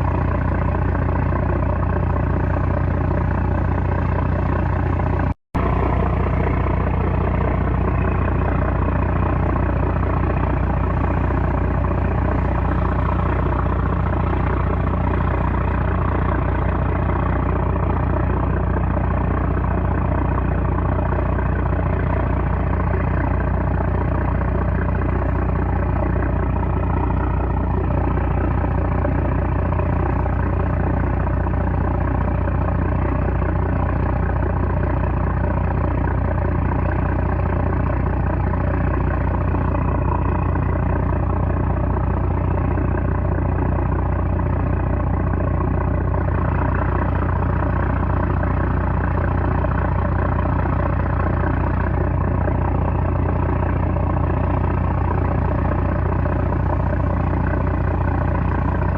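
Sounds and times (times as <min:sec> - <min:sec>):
boat engine droning: 0:00.0 - 0:58.9.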